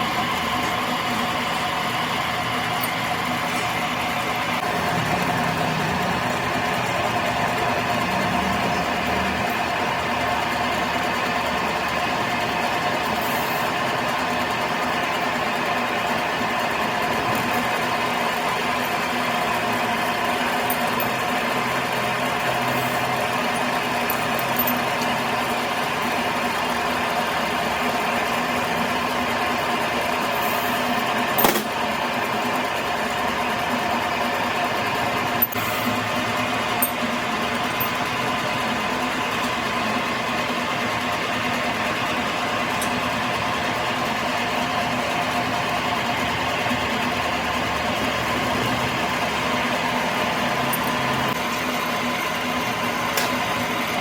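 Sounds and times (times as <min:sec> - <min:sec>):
workshop machine humming: 0:00.0 - 0:54.0.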